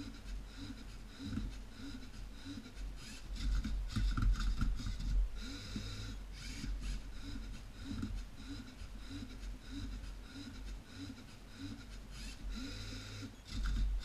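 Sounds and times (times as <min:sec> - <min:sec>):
servo motors whirring: 0:00.0 - 0:14.0.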